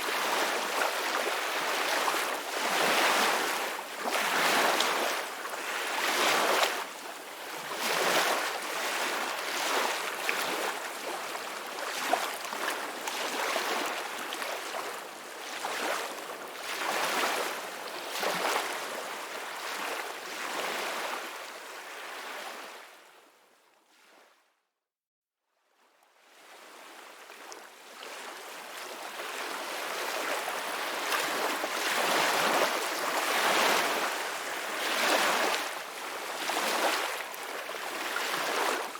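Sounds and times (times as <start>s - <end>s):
ocean waves breaking on shore: 0.0s - 22.9s, 26.4s - 38.9s.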